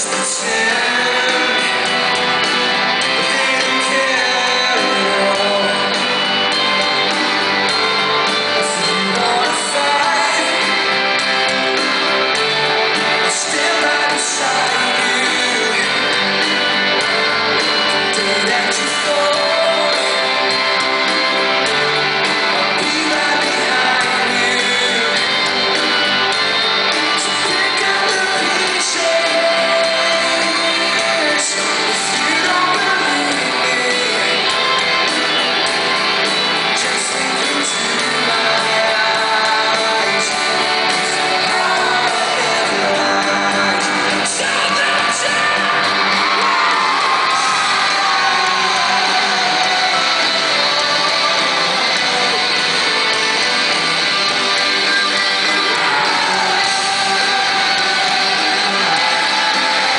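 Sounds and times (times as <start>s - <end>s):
drums: 0.0s - 59.9s
electric guitars: 0.0s - 59.9s
lead vocal singing: 0.0s - 59.9s.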